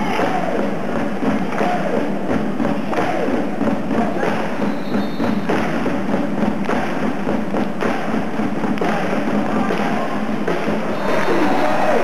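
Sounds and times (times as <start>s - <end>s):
crowd noise: 0.0s - 12.0s.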